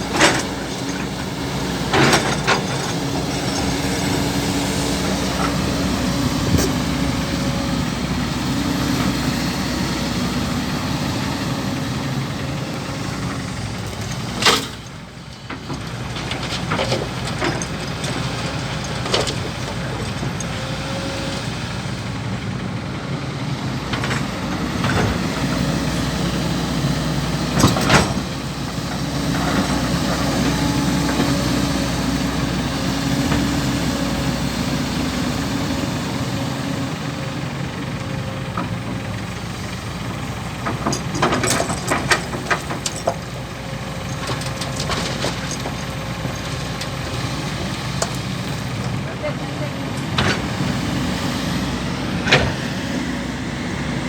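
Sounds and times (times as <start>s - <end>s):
bucket and soil striking truck: 0.0s - 54.0s
excavator diesel engine running: 0.0s - 54.0s.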